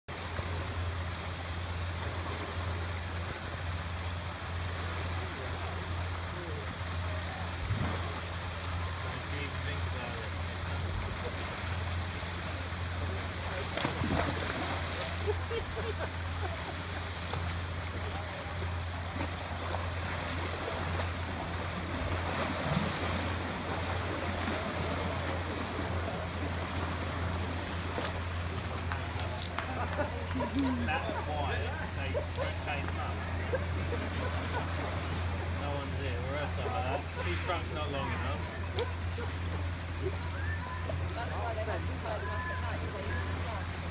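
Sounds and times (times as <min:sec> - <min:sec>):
steady low hum: 0:00.1 - 0:43.9
water splashing and sloshing: 0:00.1 - 0:43.9.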